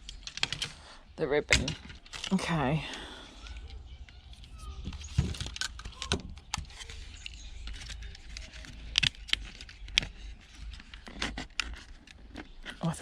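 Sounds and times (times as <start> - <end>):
plastic parts clicking and clacking: 0.0 - 13.0.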